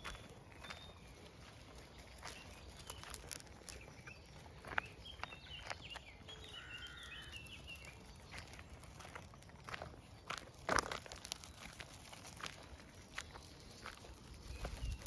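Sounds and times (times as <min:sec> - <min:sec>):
bird chirping: 0:00.0 - 0:10.4, 0:11.3 - 0:15.0
footsteps and paws on gravel: 0:00.0 - 0:15.0.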